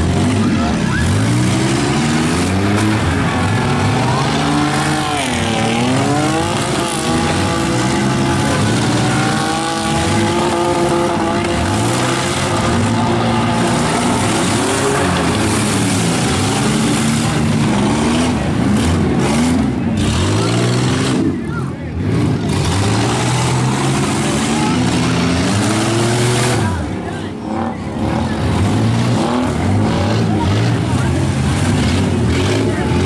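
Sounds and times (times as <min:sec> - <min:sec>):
car engines revving: 0:00.0 - 0:33.0.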